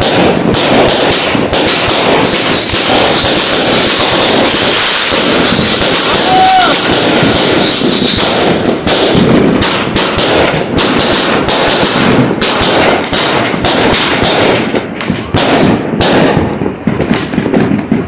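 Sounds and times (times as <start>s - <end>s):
firework cake bangs: 0.0s - 18.0s.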